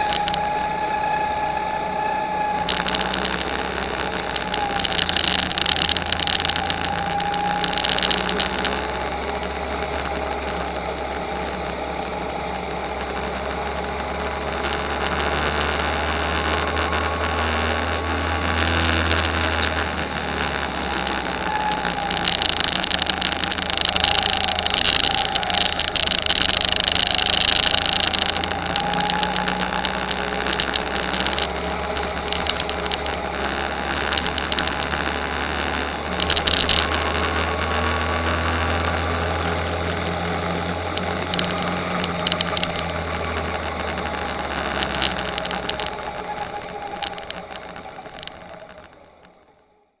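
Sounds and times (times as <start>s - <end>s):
go-kart engine running: 0.0s - 49.5s
wind crackles on microphone: 2.6s - 49.4s.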